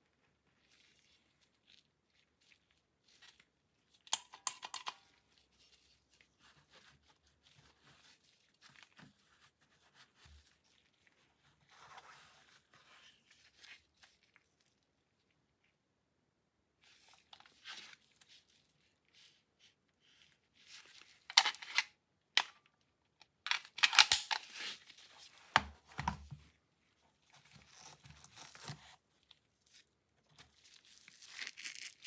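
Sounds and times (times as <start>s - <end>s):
gloved hands rustling and crinkling: 0.0s - 15.8s, 16.8s - 21.4s, 23.9s - 32.0s.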